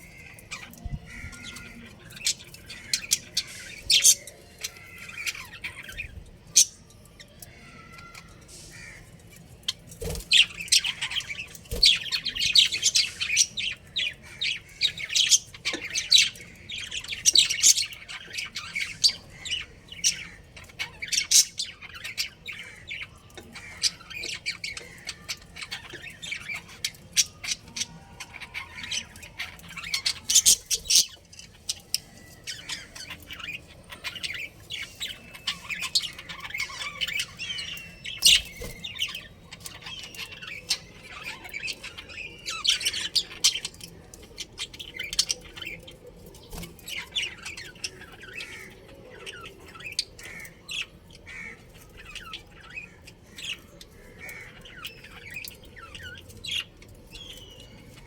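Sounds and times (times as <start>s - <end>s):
budgerigars chirping and chattering: 0.0s - 58.0s.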